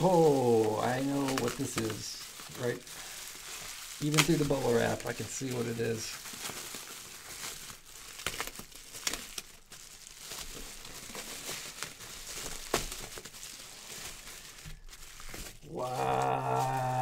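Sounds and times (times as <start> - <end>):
bubble wrap crinkling: 0.0 - 17.0
bubble wrap snapping: 0.0 - 17.0.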